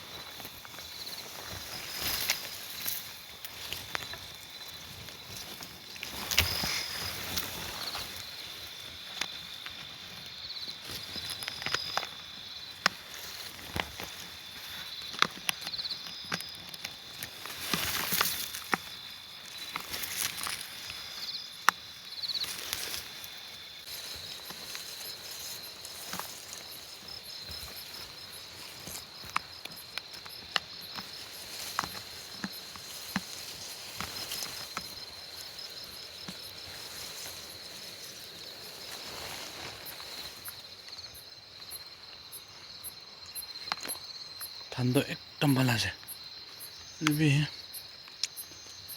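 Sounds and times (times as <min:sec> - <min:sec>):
crackles and rustles: 0:00.0 - 0:48.9
insects trilling high: 0:00.0 - 0:48.9
pulsing insect call: 0:00.0 - 0:48.9.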